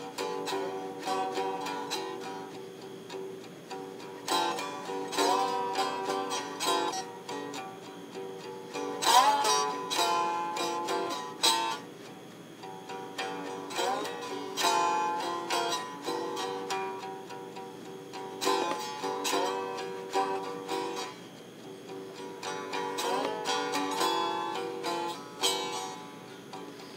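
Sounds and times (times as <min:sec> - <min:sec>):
slide guitar plucked notes: 0:00.0 - 0:26.9.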